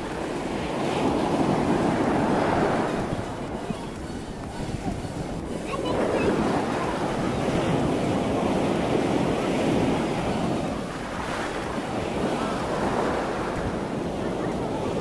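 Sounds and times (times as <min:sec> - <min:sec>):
waves breaking on sand: 0:00.0 - 0:15.0
wind buffeting microphone: 0:00.0 - 0:15.0.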